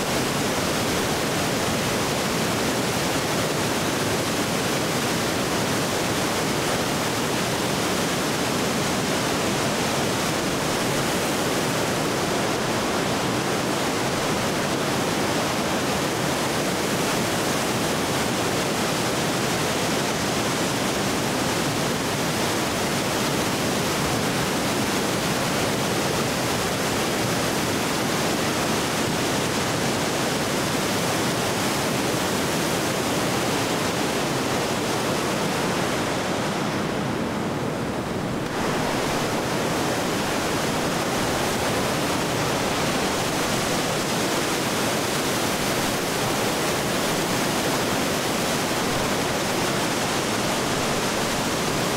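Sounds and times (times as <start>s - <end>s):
river roaring over falls: 0.0s - 51.9s.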